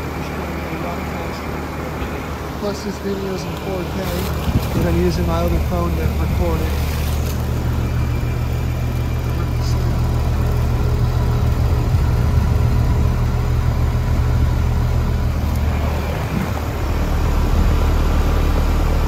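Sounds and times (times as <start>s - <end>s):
compressor low hum: 0.0s - 19.0s
condenser fan rushing: 0.0s - 19.0s.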